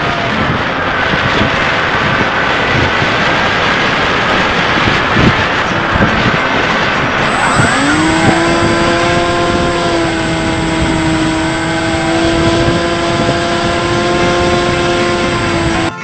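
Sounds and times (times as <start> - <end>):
electric motor and propeller whine: 0.0 - 16.0
wind rushing over microphone: 0.0 - 16.0.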